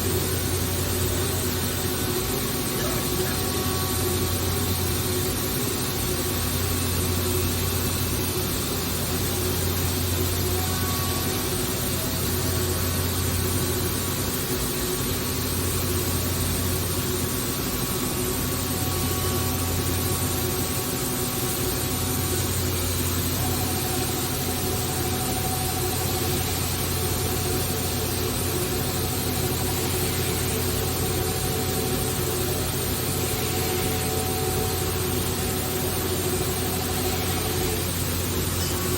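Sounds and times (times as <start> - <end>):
low machine hum: 0.0 - 38.9
machine whining tones: 0.0 - 38.9.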